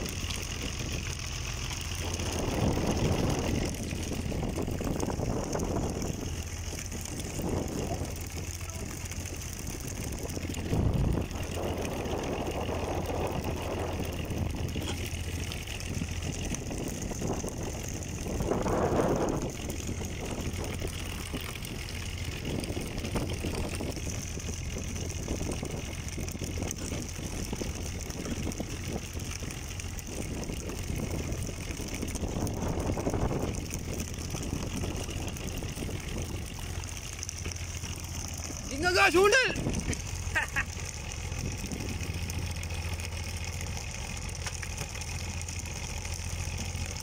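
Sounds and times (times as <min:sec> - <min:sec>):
boat engine humming: 0:00.0 - 0:47.0.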